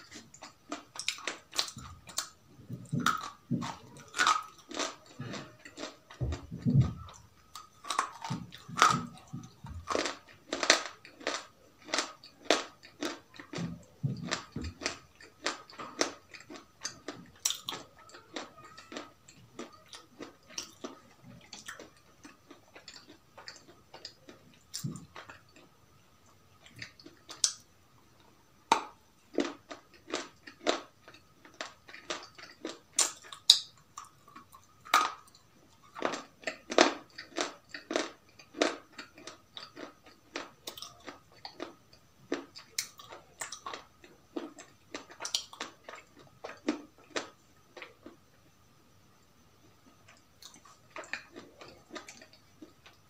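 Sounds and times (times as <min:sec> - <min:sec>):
chewing crisp food: 0:00.0 - 0:27.6, 0:28.7 - 0:48.2, 0:49.8 - 0:53.0
faint steady tone: 0:00.0 - 0:53.0.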